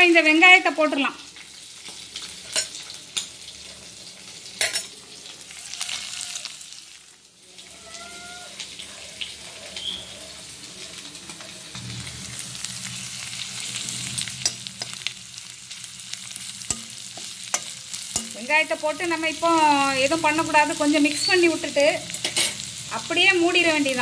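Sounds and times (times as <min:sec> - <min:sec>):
prawns and onions sizzling in oil: 0:00.0 - 0:24.0.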